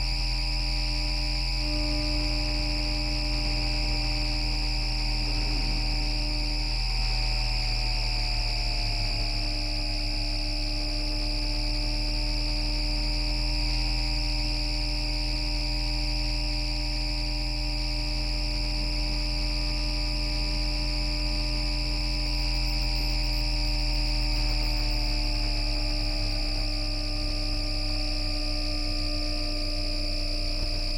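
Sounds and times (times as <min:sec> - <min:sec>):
tram inverter buzzing hum: 0:00.0 - 0:30.9.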